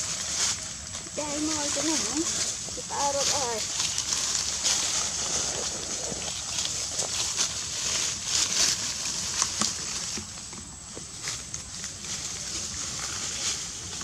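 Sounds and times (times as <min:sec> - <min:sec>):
dry leaves crackling: 0:00.0 - 0:14.0
insect hiss: 0:00.0 - 0:14.0.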